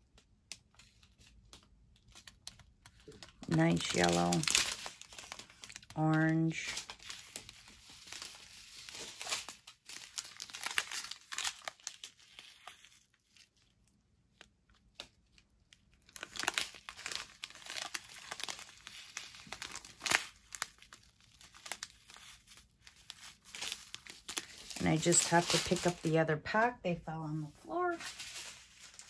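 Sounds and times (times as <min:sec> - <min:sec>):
plastic bags crinkling: 0:00.8 - 0:26.7, 0:27.3 - 0:29.0.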